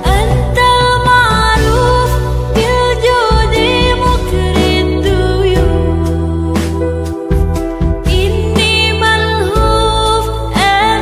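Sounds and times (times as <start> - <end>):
instrumental accompaniment: 0.0 - 11.0
woman singing: 0.0 - 11.0.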